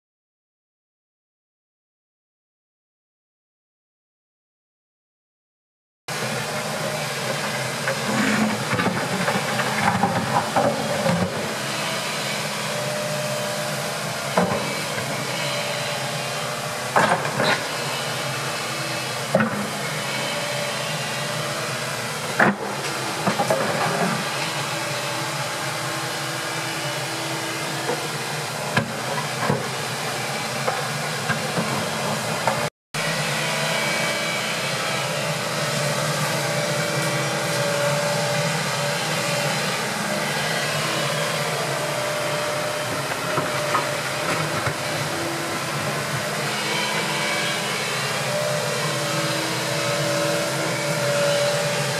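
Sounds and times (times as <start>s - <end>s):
excavator diesel engine running: 6.1s - 51.9s.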